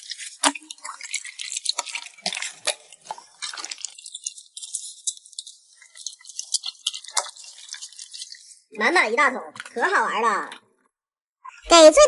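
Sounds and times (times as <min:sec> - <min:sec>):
wet clicks and popping bubbles: 0:00.0 - 0:08.8, 0:09.5 - 0:10.9.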